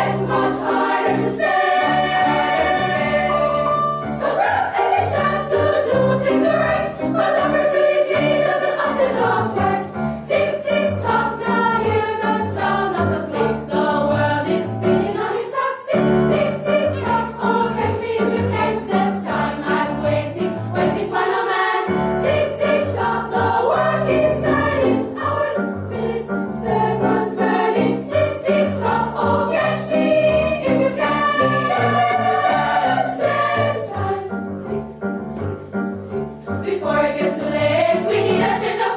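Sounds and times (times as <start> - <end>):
choir singing in harmony: 0.0 - 38.9.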